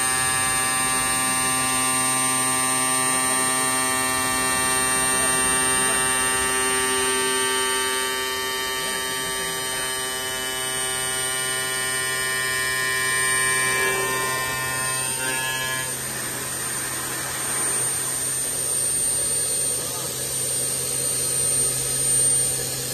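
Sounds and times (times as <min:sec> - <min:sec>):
high steady whine: 0:00.0 - 0:22.9
milling machine spindle hum: 0:00.0 - 0:22.9.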